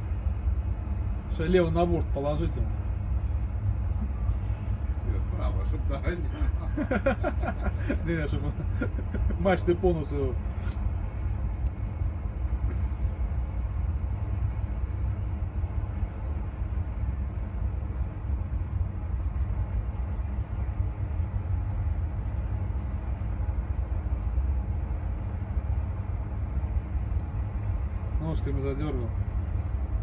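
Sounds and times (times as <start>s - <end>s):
helicopter rotor rumble: 0.0s - 30.0s.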